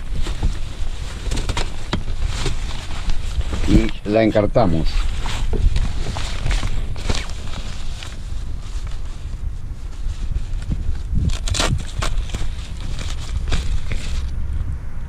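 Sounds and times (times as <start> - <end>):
nylon cover rustling: 0.0 - 14.3
steady low rumble: 0.0 - 15.0.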